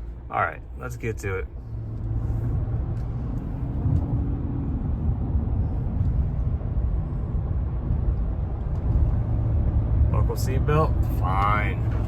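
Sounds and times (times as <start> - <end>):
vehicle rumble from inside cab: 0.0 - 12.0.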